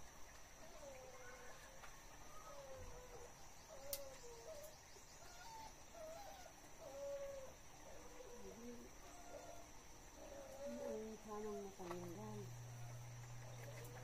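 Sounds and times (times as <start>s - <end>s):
high insect drone: 0.0s - 14.0s
faint bird calls: 0.6s - 14.0s.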